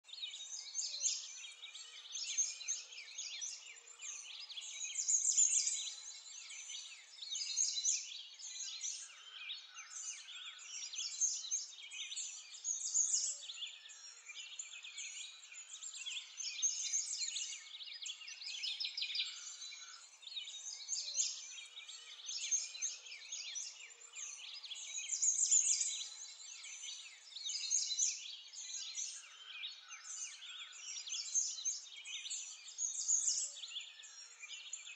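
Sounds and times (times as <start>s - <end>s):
small birds chirping and twittering: 0.0s - 34.9s.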